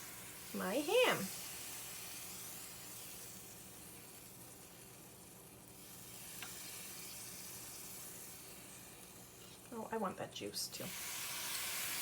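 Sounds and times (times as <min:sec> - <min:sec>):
sandwich sizzling in a frying pan: 0:00.0 - 0:09.7, 0:10.8 - 0:12.0.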